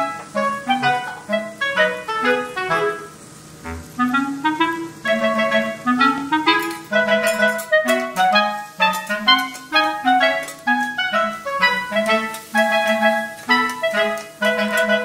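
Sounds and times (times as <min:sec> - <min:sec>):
clarinet-led tune with bass: 0:00.0 - 0:15.0.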